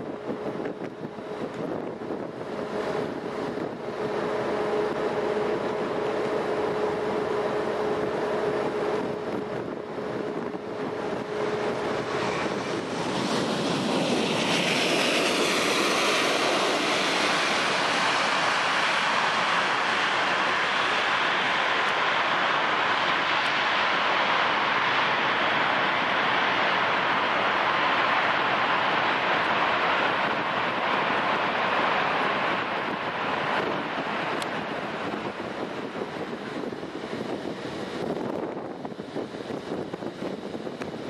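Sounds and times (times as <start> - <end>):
jet engines humming and whooshing: 0.0 - 41.0
jet engines roaring: 0.0 - 41.0.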